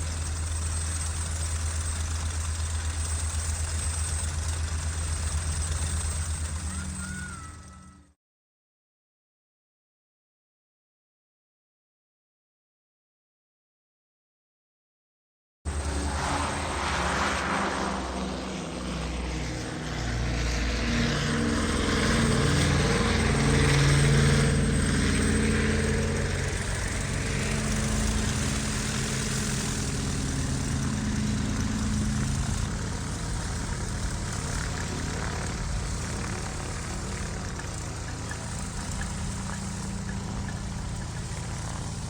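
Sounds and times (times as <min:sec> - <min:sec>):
engine running: 0:00.0 - 0:08.1, 0:15.7 - 0:42.0.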